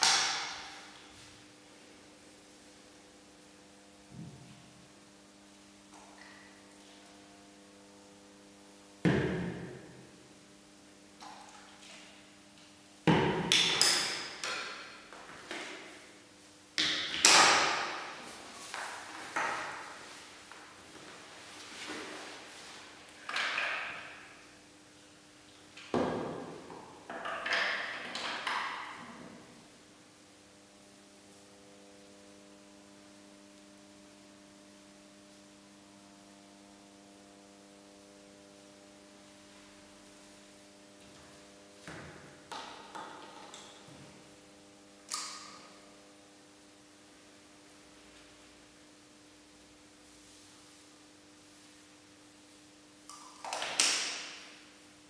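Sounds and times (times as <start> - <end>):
faint electrical hum: 0.0 - 55.0.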